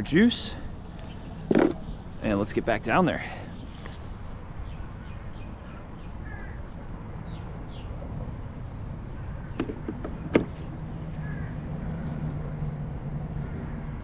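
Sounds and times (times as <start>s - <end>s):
birds calling: 0.0s - 8.0s, 8.8s - 14.0s
low outdoor rumble: 0.0s - 14.0s.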